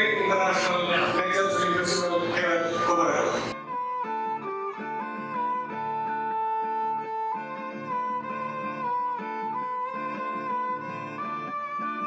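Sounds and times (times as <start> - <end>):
bowed strings melody: 0.0 - 12.0.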